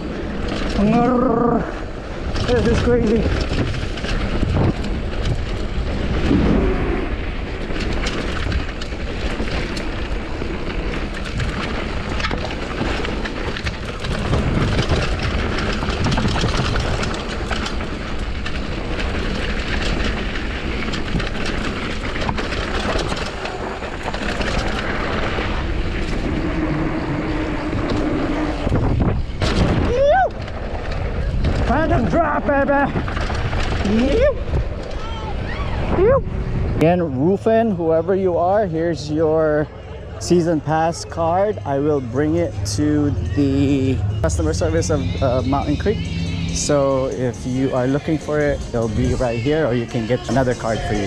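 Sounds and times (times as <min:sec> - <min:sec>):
bike clattering and rattling: 0:00.0 - 0:51.0
bike tyres on dirt: 0:00.0 - 0:51.0
wind buffeting microphone: 0:00.0 - 0:51.0.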